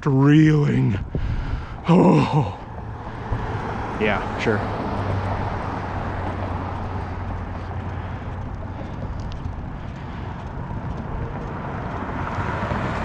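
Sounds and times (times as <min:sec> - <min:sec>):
road rumble: 0:00.0 - 0:13.0
wind buffeting microphone: 0:00.4 - 0:13.0.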